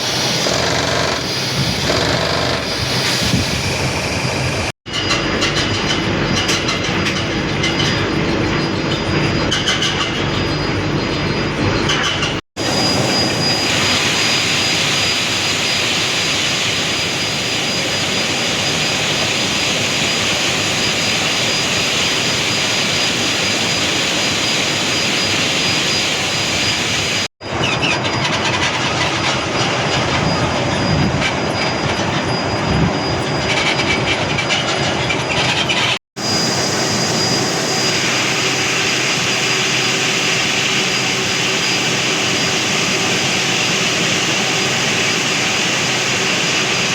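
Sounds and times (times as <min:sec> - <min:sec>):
heavy construction machinery roar: 0:00.0 - 0:46.9.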